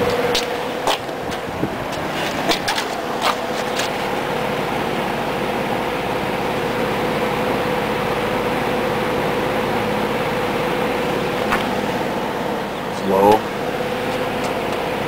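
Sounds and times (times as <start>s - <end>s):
box fan running: 0.0s - 15.0s.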